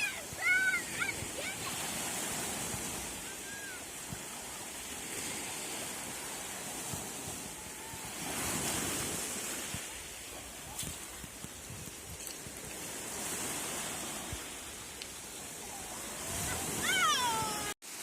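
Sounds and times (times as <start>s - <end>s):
wind buffeting microphone: 0.0s - 17.7s
sea surf washing ashore: 0.0s - 18.0s.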